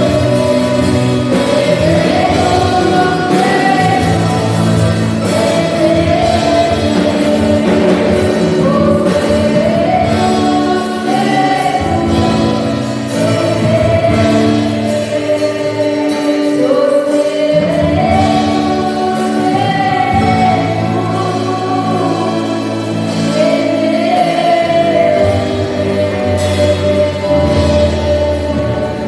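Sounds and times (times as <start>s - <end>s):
band accompaniment: 0.0s - 29.0s
group singing worship song: 0.0s - 29.0s.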